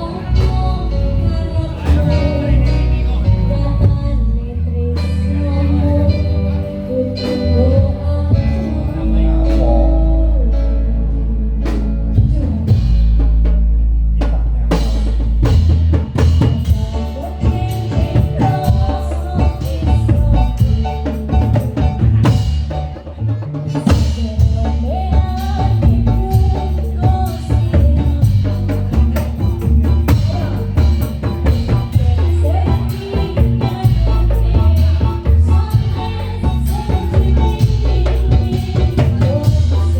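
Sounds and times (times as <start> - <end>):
deep bass: 0.0 - 39.9
heavy drums: 0.0 - 39.9.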